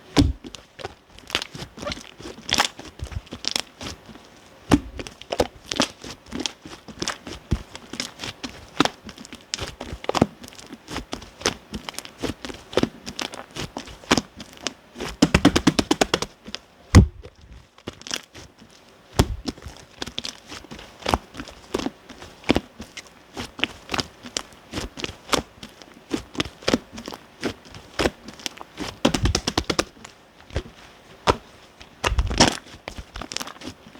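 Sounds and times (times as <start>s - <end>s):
slime squished by hand: 0.1s - 18.5s, 19.1s - 33.9s.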